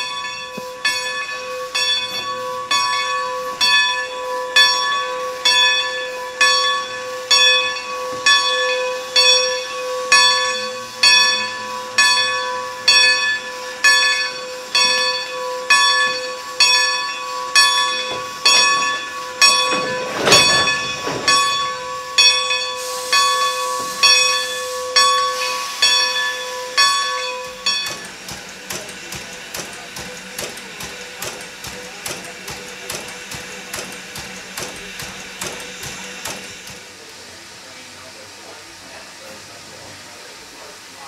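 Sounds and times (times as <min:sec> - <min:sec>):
steam locomotive bell ringing: 0:00.0 - 0:37.0
steam hissing: 0:00.0 - 0:41.0.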